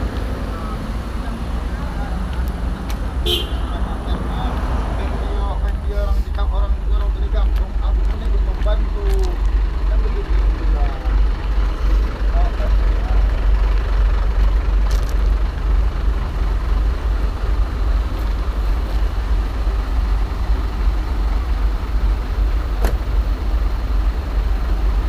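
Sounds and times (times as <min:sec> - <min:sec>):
truck diesel engine rumbling: 0:00.0 - 0:25.0.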